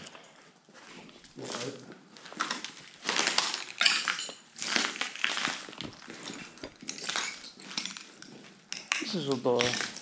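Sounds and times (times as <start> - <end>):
footsteps crunching over debris: 0.0 - 10.0.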